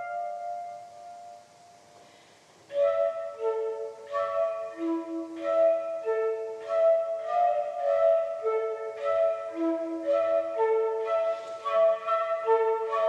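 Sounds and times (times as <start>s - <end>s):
solo flute playing: 0.0s - 1.7s, 2.7s - 13.0s.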